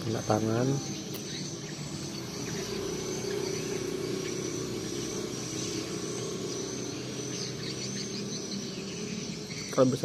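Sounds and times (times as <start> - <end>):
high insect trill: 0.0 - 10.0
low mechanical hum: 0.0 - 10.0.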